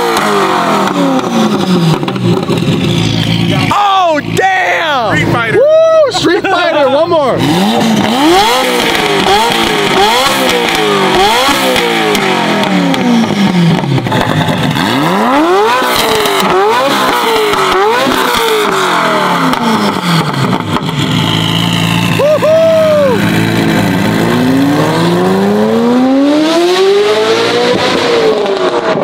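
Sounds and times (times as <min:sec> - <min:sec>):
car engine revving: 0:00.0 - 0:05.5, 0:06.2 - 0:29.0.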